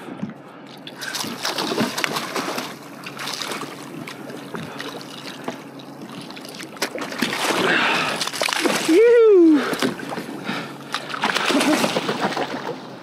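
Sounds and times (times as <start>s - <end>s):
water splashing: 0.7s - 13.0s
fish thrashing in water: 0.8s - 12.9s.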